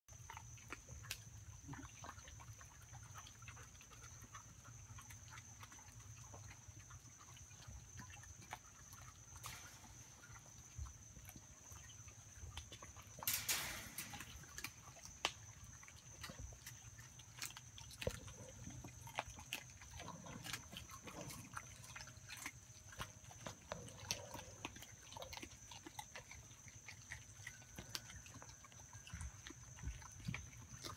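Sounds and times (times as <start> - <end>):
dog chewing meat and bone: 0.1 - 9.5, 14.1 - 30.9.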